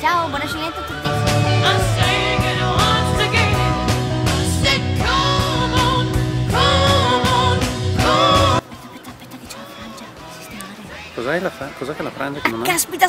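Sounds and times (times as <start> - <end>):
song with singing over drum beat: 0.7 - 12.7.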